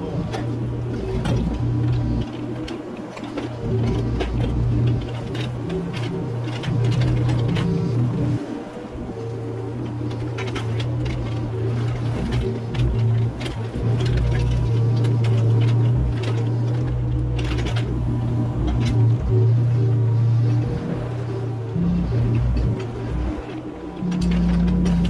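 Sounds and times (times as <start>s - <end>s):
mini excavator engine running: 0.0s - 25.0s.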